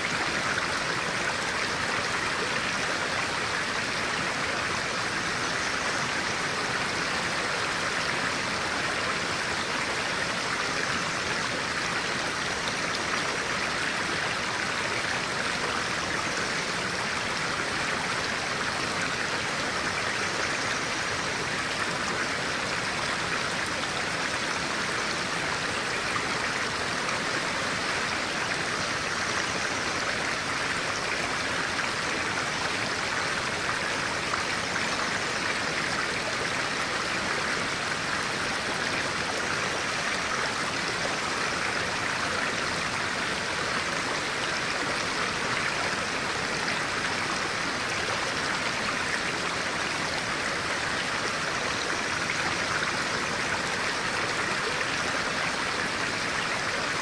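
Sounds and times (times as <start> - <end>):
water flowing over rocks: 0.0 - 57.0.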